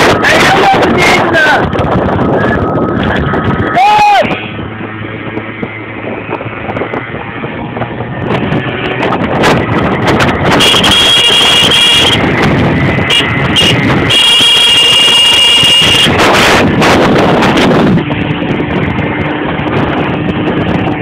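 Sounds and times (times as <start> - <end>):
wind buffeting microphone: 0.0 - 21.0
scooter engine humming: 1.6 - 21.0.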